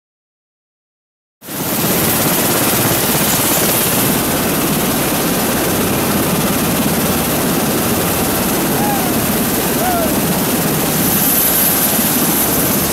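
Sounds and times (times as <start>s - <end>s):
tiltrotor aircraft engines: 1.5s - 12.9s.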